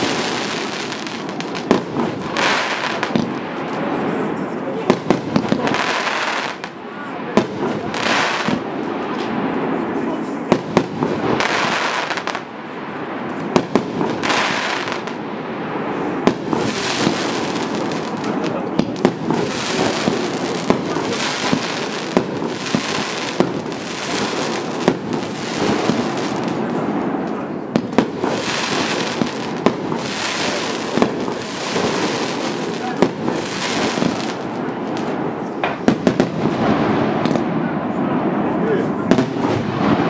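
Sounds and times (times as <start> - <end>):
firework hiss and crackle: 0.0 - 37.6, 39.0 - 40.0.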